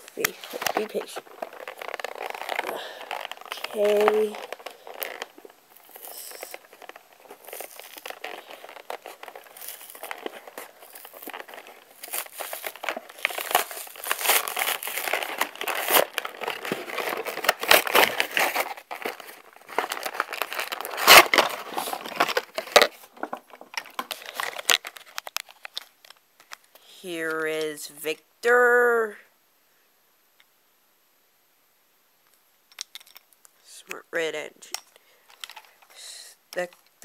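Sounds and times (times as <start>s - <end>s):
plastic and cardboard crinkling: 0.0s - 27.8s, 34.6s - 37.0s.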